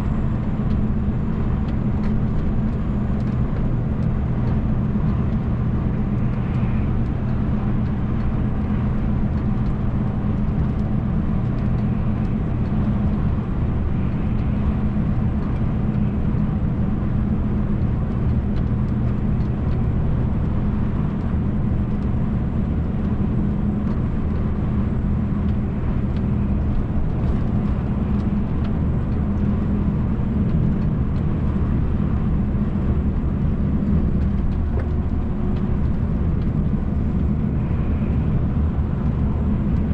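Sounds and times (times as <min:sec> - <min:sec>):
road and tyre noise: 0:00.0 - 0:39.9
truck diesel engine droning: 0:00.0 - 0:39.9.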